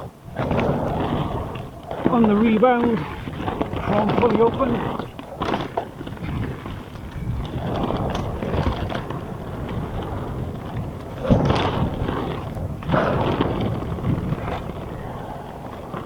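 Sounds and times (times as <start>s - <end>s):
bike rattling and knocking: 0.0s - 15.1s
bike tyres rolling on dirt: 0.0s - 16.0s.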